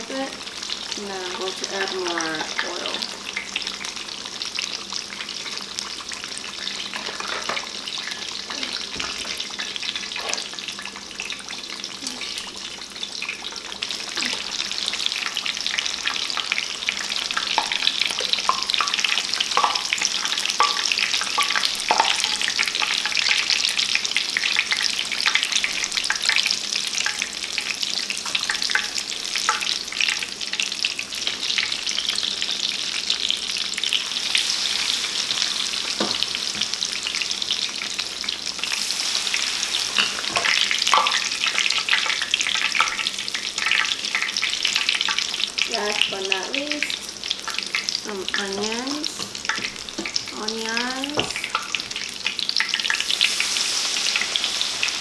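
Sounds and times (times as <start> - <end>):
batter deep-frying in hot oil: 0.0 - 55.0.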